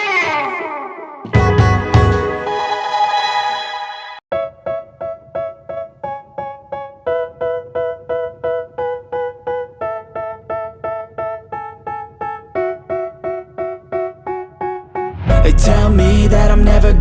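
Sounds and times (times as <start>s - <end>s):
keyboard chords: 1.3s - 3.7s, 4.3s - 17.0s.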